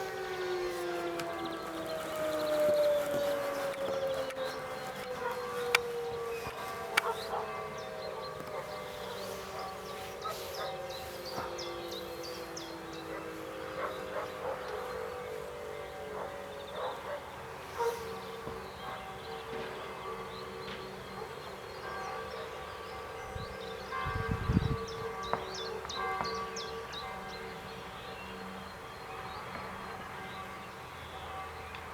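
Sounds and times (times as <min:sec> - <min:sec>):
distant sirens: 0:00.0 - 0:31.9.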